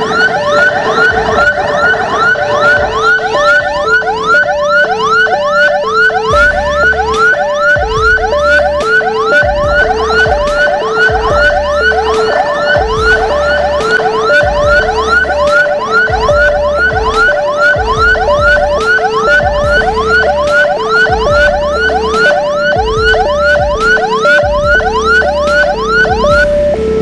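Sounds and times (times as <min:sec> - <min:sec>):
emergency sirens wailing: 0:00.0 - 0:27.0.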